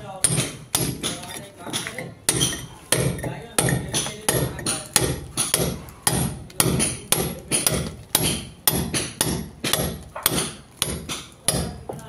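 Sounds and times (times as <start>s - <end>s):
hammer striking chisel on brick: 0.0s - 12.0s.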